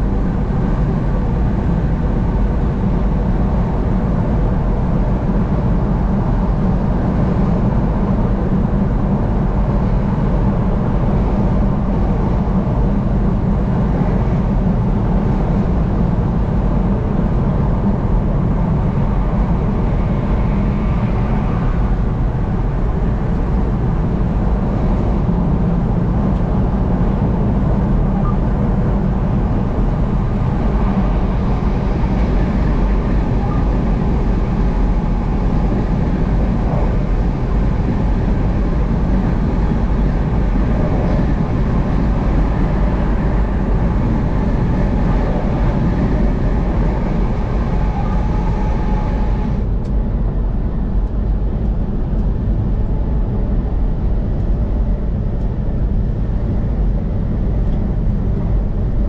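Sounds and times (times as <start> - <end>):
road noise hiss: 0.0 - 50.4
road noise low rumble: 0.0 - 59.0.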